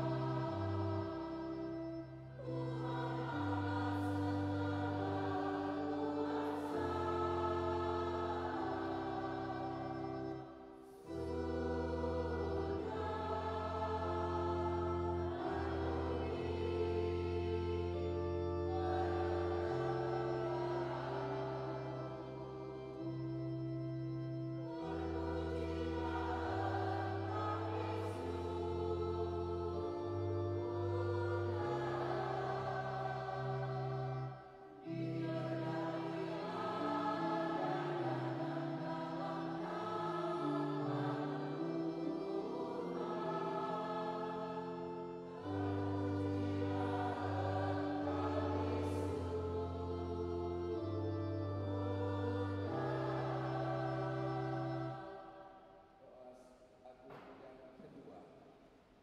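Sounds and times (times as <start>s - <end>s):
keyboard organ chords: 0.0s - 55.7s
choir singing a hymn: 0.0s - 56.3s.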